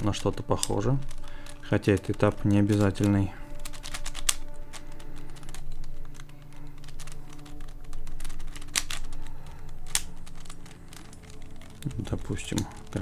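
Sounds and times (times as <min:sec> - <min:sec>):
plastic puzzle clicking: 0:00.0 - 0:13.0.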